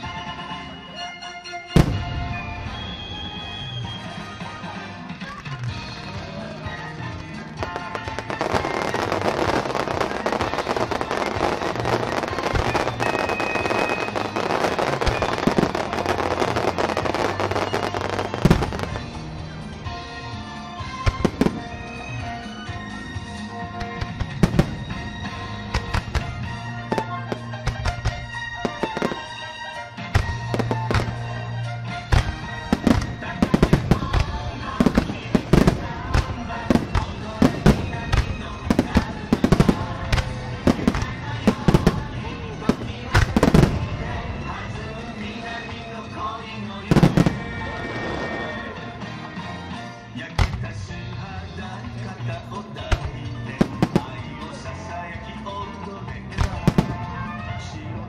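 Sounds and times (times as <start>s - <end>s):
music: 0.0s - 58.0s
fireworks crackling and popping: 1.8s - 19.9s, 20.9s - 22.6s, 23.2s - 54.9s, 56.2s - 57.4s.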